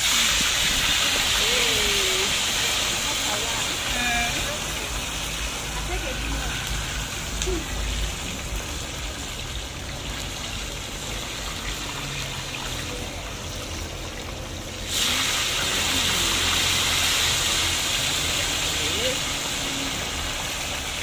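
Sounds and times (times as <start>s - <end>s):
fish deep-frying in hot oil: 0.0s - 21.0s.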